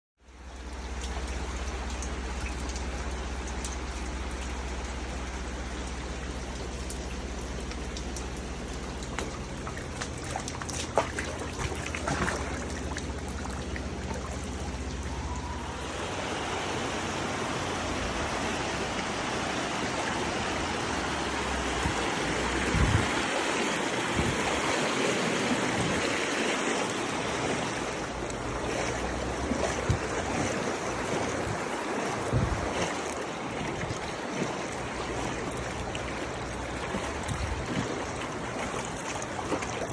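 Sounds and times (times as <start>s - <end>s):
floodwater flowing: 0.2s - 39.9s
knocks and splashes: 0.4s - 39.9s.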